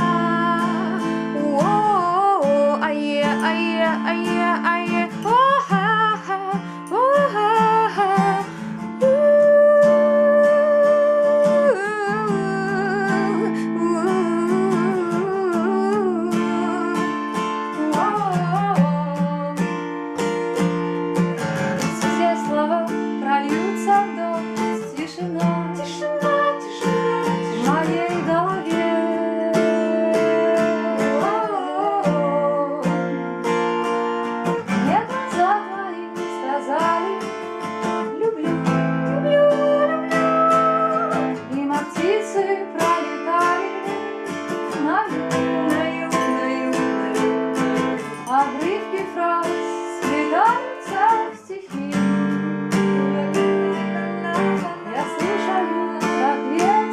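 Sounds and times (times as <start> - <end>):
acoustic guitar strumming chords: 0.0 - 56.9.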